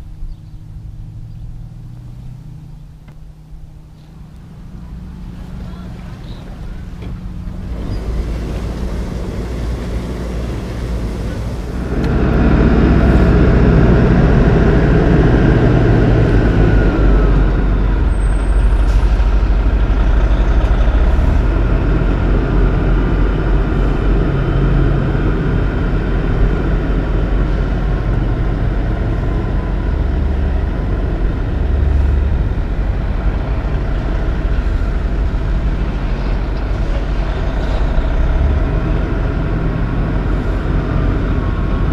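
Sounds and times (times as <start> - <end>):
low noise: 0.0 - 41.9
truck diesel engine running: 0.0 - 41.9.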